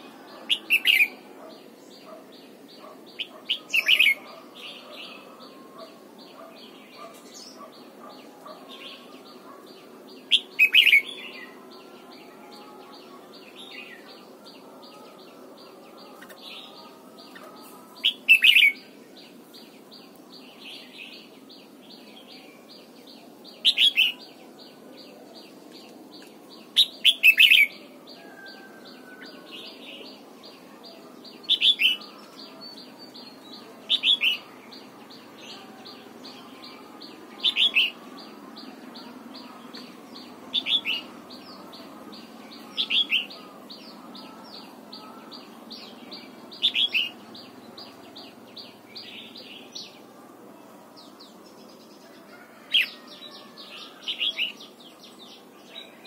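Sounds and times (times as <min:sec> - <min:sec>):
bird singing clear phrases: 0:00.0 - 0:56.0.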